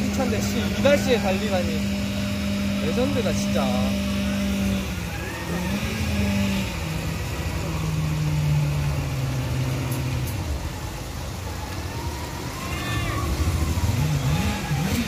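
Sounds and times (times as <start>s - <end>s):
steady background noise: 0.0s - 15.0s
vehicle motor hum: 0.0s - 15.0s.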